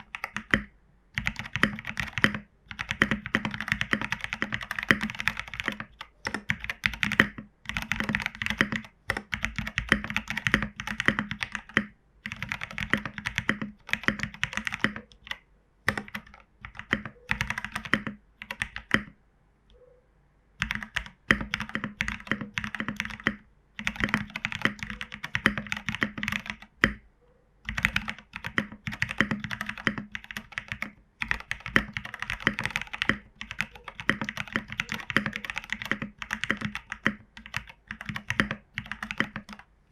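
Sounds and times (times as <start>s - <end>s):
mechanical keyboard keys clacking: 0.0s - 19.1s, 20.6s - 27.0s, 27.7s - 39.6s.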